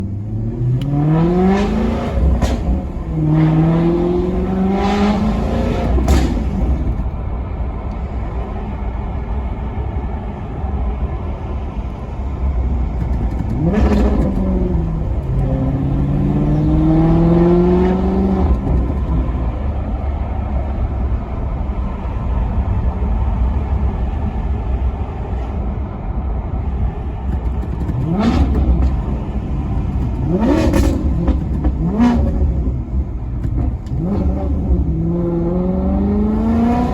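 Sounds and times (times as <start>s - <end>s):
car engine accelerating hard: 0.0s - 8.3s, 11.9s - 25.6s, 26.7s - 36.9s.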